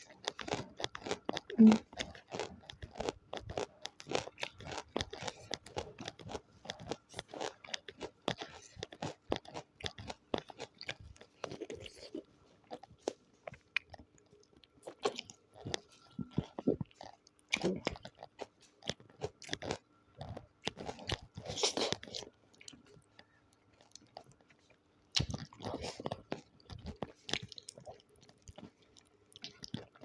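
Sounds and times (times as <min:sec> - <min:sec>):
crunching and wet chewing: 0:00.0 - 0:30.0.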